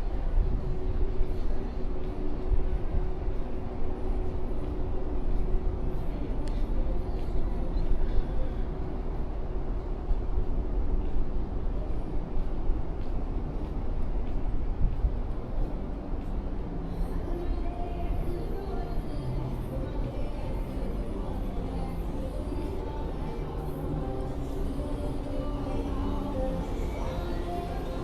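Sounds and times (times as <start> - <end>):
faint constant hum: 0.0 - 28.0.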